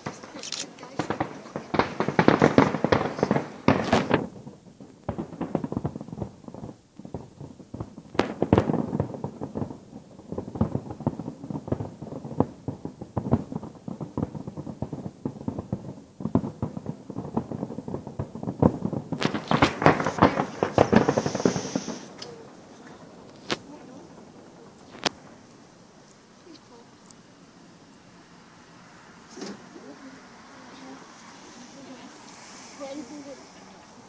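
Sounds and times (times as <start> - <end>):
distant fireworks bangs and crackle: 0.0 - 34.0.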